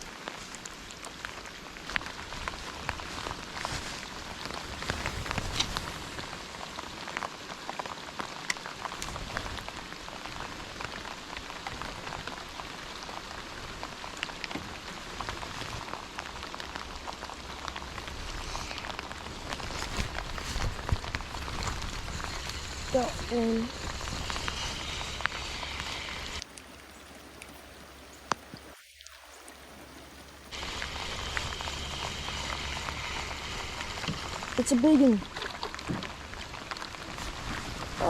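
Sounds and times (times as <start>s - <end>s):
rain falling: 0.0s - 38.0s
raindrops tapping: 0.0s - 38.0s.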